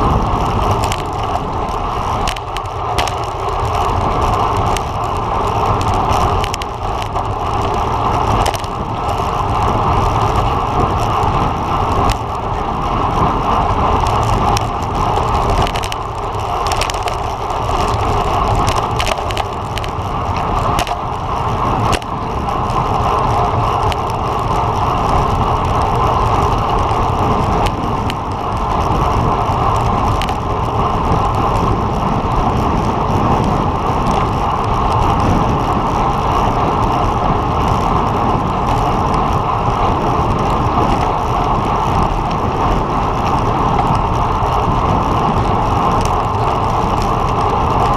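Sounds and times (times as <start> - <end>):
bicycle clicks and rattles: 0.0 - 47.9
wind and tyre noise: 0.0 - 47.9.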